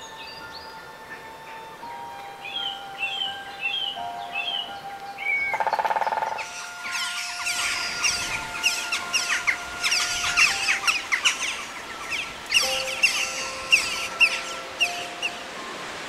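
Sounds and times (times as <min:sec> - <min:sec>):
soft music: 0:00.0 - 0:16.0
songbirds chirping: 0:00.0 - 0:16.0.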